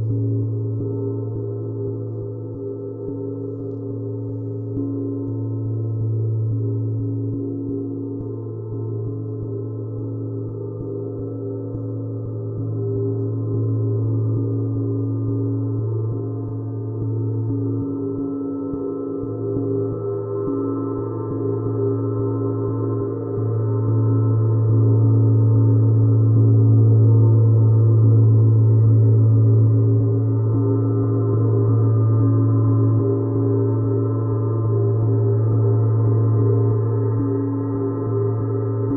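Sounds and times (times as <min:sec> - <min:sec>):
deep instrumental drone: 0:00.0 - 0:38.9.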